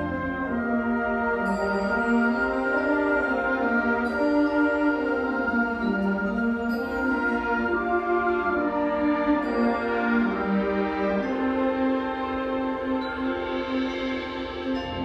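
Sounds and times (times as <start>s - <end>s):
concert band sustained chords: 0.0s - 15.0s.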